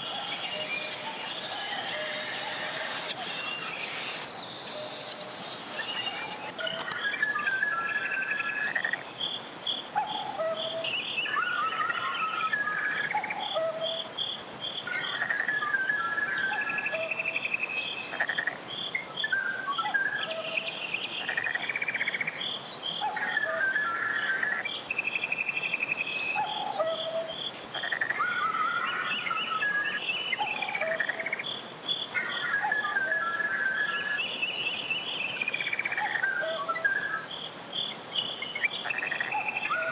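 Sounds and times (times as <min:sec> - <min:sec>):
birds singing: 0:00.0 - 0:09.0, 0:09.7 - 0:39.9.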